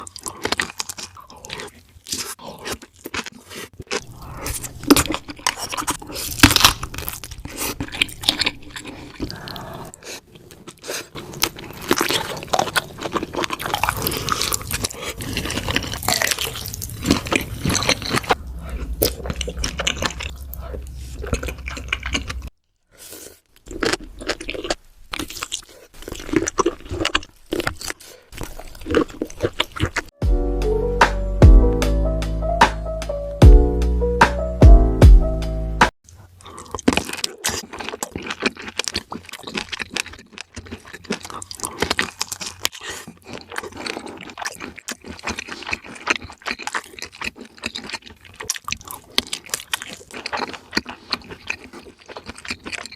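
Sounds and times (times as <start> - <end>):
crisp crunching bites: 0.0 - 22.5, 23.6 - 30.1, 36.1 - 52.9
wet chewing: 0.0 - 30.2, 36.1 - 52.9.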